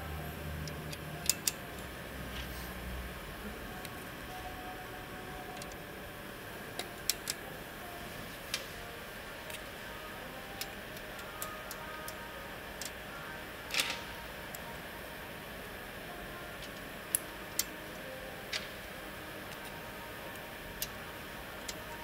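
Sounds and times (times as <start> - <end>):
steady workshop hum: 0.0 - 22.0.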